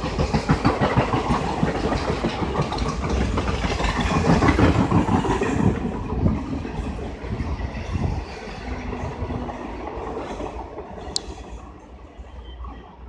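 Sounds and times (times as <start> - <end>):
train wheels clattering on rails: 0.0 - 11.7
steady train rumble: 0.0 - 13.0.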